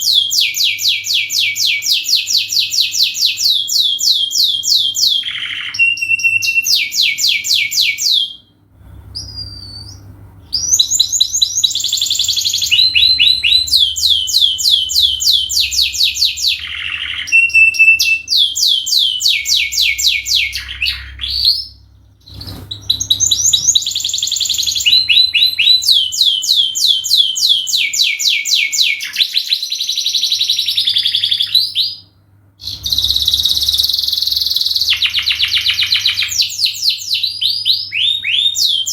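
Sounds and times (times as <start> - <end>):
canary singing trills: 0.0 - 8.5, 9.1 - 38.9.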